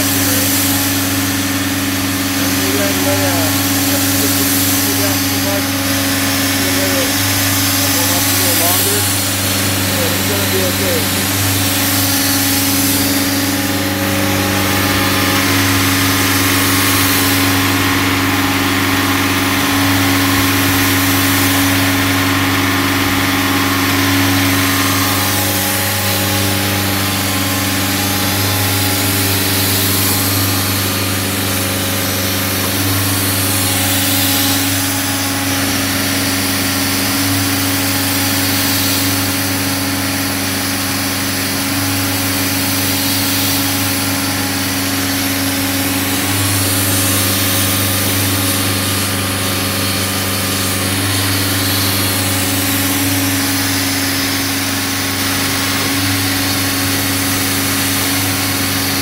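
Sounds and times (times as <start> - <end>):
engine and compressor hum: 0.0 - 59.0
hiss: 0.0 - 59.0.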